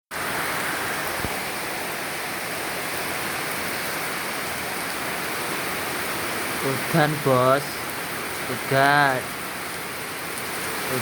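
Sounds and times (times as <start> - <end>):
heavy rain falling: 0.1 - 11.0.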